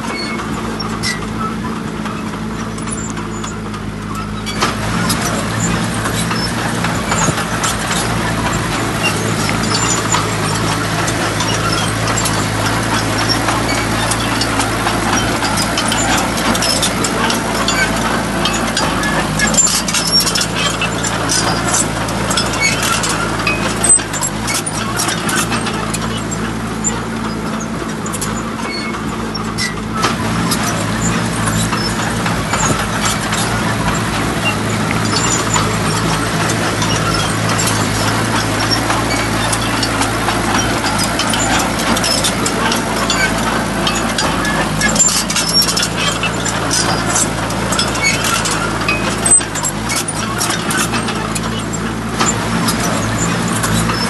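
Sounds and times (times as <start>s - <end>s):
clicks and rattles: 0.0s - 54.0s
diesel engine running: 0.0s - 54.0s.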